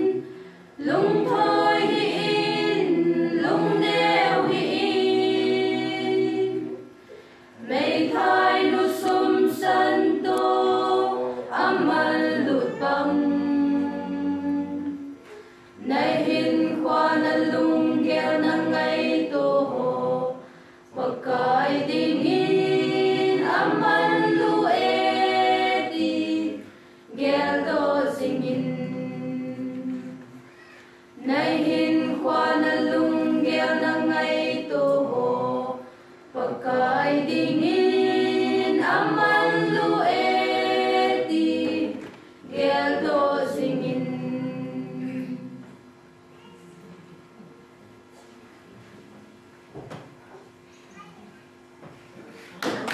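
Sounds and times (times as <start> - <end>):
mixed choir singing a cappella: 0.0 - 30.3, 31.2 - 45.8.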